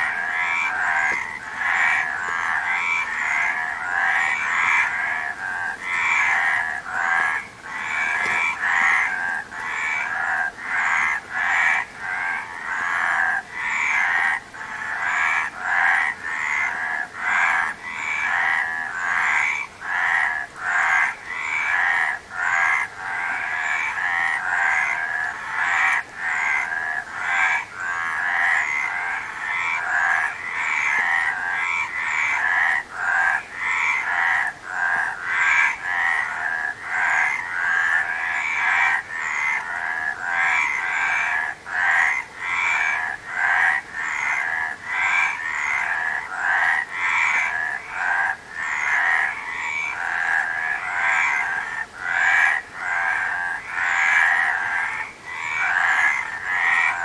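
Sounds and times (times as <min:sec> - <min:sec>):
frogs croaking in chorus: 0:00.0 - 0:57.0.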